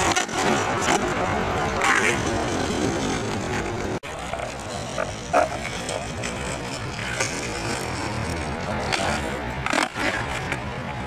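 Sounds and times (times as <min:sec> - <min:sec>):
skateboard clacks: 0:00.0 - 0:11.0
skateboard wheels on rough asphalt: 0:00.0 - 0:11.0.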